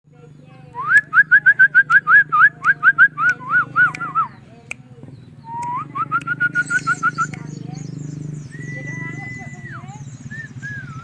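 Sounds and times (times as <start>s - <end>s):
bird singing whistled notes: 0.4s - 11.0s.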